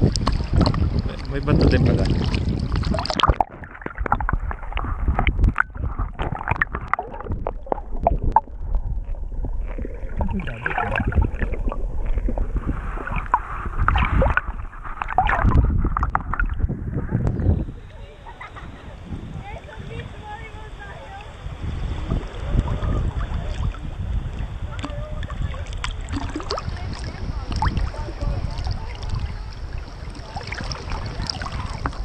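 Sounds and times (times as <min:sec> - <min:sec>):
muffled seawater sloshing and gurgling: 0:00.0 - 0:32.0.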